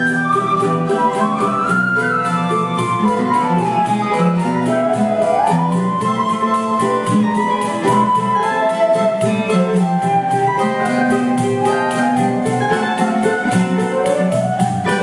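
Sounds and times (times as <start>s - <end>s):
flute melody: 0.0s - 15.0s
guitar: 0.0s - 15.0s
strummed small guitars: 0.0s - 15.0s.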